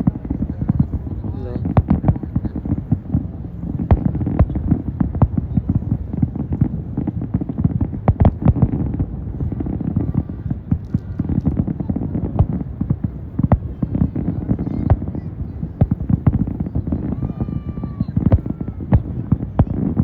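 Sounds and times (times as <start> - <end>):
fireworks booming and popping: 0.0 - 20.0.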